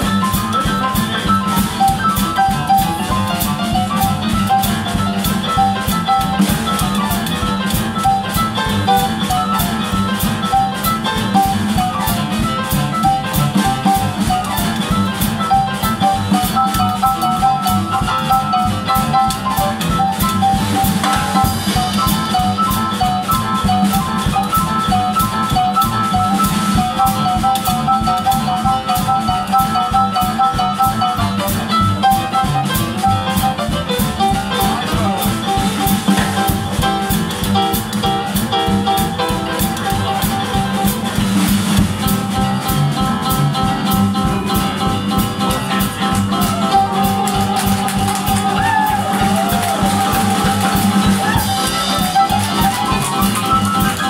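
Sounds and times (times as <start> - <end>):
drums on cymbals and snare: 0.0 - 54.0
piano: 0.0 - 54.0
walking double bass: 0.0 - 54.0.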